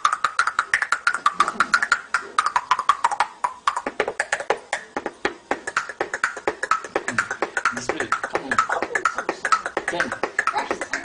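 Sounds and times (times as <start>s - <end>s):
boy beatboxing: 0.0s - 11.0s.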